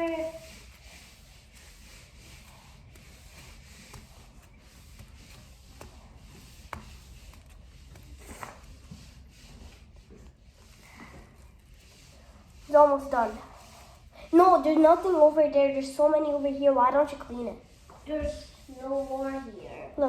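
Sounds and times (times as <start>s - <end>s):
rubbing against a surface: 0.0s - 20.0s.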